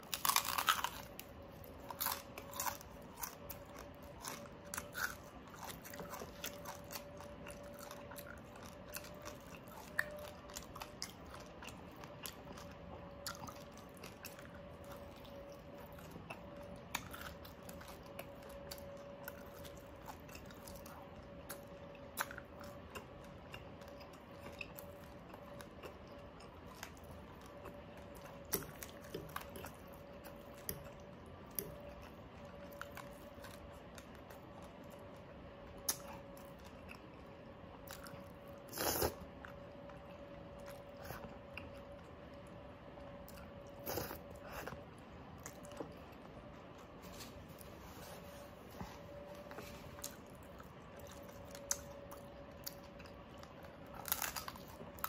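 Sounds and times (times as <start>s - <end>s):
crunchy chewing: 0.0s - 55.0s
faint hum: 0.0s - 55.0s.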